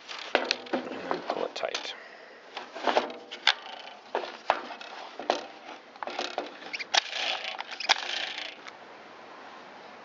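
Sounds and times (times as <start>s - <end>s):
scraping and rustling: 0.0s - 1.9s, 2.5s - 8.7s.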